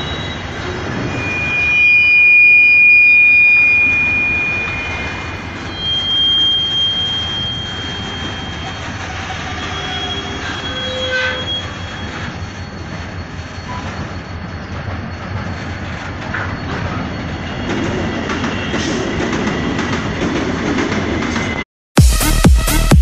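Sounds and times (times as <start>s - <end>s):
freight train rumbling: 0.0s - 1.8s, 3.8s - 21.6s
wheels squealing on rails: 0.0s - 21.6s.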